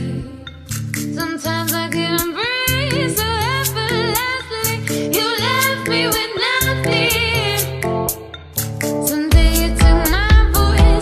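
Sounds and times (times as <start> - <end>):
song with sung melody and beat: 0.0 - 11.0.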